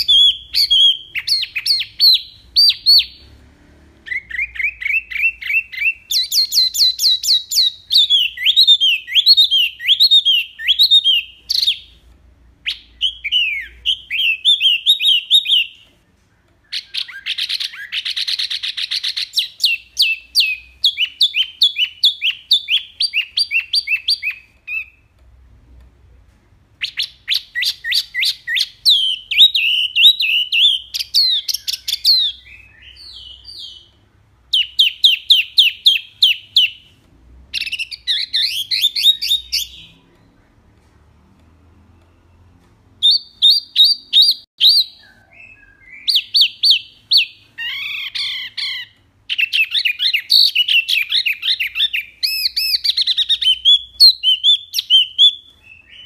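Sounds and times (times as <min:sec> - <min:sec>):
songbird singing: 0:00.0 - 0:03.4, 0:04.0 - 0:25.2, 0:26.8 - 0:56.0.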